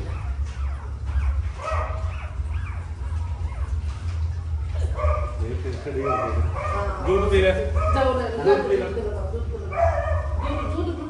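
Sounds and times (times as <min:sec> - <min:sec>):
puppies squealing and whimpering: 0:00.0 - 0:11.0.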